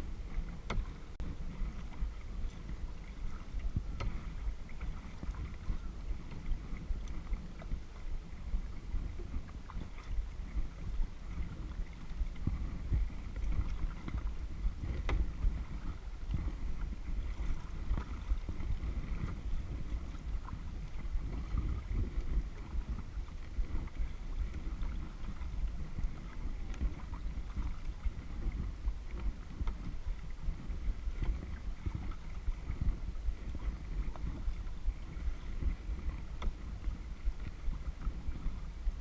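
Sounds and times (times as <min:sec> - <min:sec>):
water lapping and splashing: 0:00.0 - 0:39.0
wind rumble on microphone: 0:00.0 - 0:39.0.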